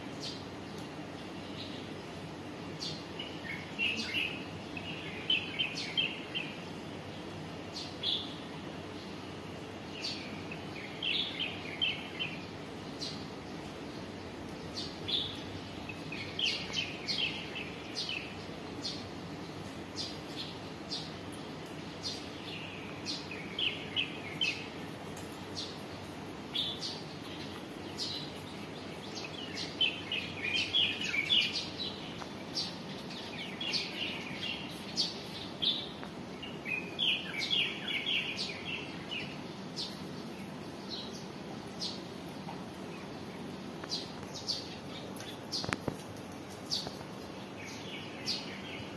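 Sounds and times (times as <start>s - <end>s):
low background noise: 0.0s - 48.9s
small birds chirping: 0.0s - 48.9s.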